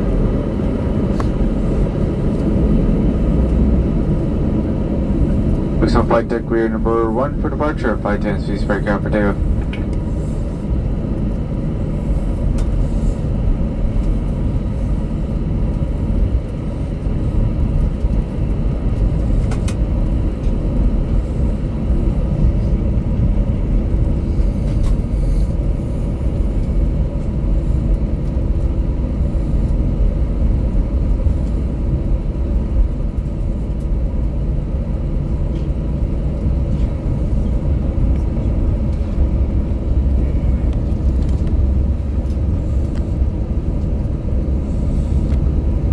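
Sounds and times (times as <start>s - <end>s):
jet engines at takeoff thrust: 0.0s - 45.9s
wheels rumbling on runway: 0.0s - 45.9s.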